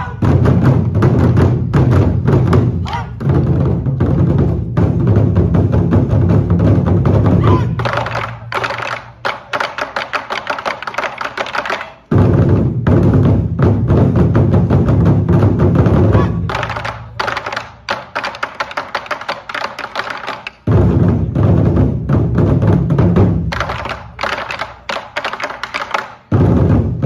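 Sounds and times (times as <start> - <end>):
drums played with sticks: 0.0 - 27.0.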